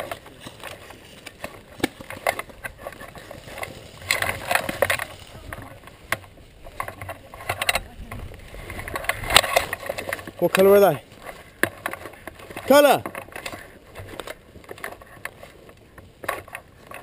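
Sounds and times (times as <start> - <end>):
gun and sling rattling: 0.0 - 17.0.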